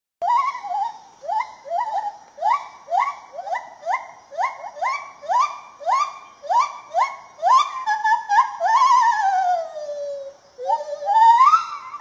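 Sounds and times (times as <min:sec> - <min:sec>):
gibbon hooting: 0:00.2 - 0:12.0.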